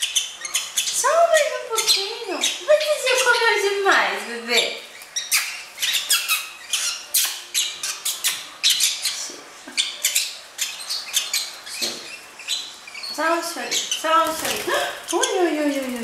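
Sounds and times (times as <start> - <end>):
lovebird chicks squawking: 0.0 - 16.0.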